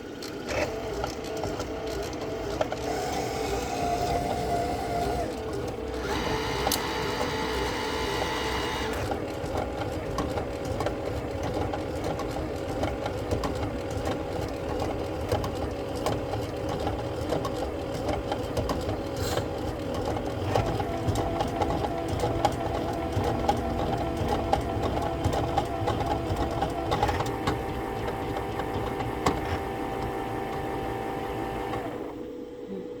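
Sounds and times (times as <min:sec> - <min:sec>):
roti maker humming and clattering: 0:00.0 - 0:32.4.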